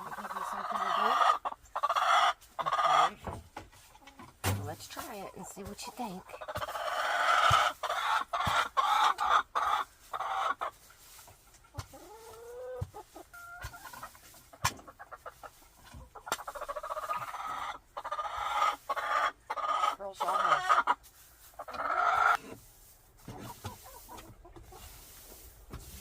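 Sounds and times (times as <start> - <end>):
hen squawking and clucking: 0.0 - 4.4, 5.0 - 26.0.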